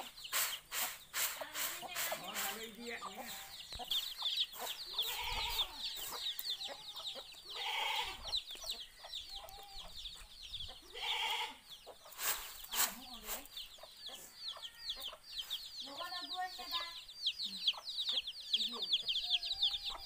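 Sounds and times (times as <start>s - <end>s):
chicken clucking: 0.0s - 20.0s
chicks peeping: 0.0s - 20.0s.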